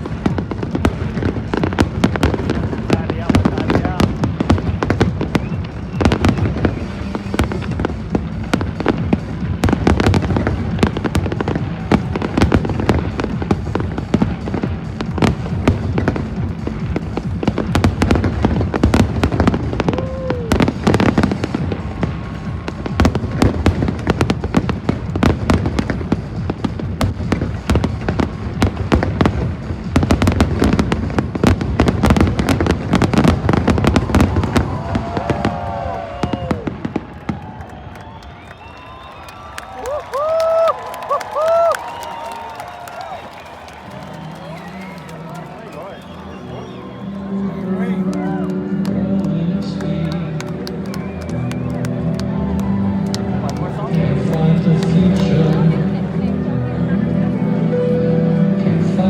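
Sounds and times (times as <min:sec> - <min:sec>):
fireworks bangs and crackles: 0:00.0 - 0:47.0, 0:47.8 - 0:56.4
music playing: 0:00.0 - 0:59.0.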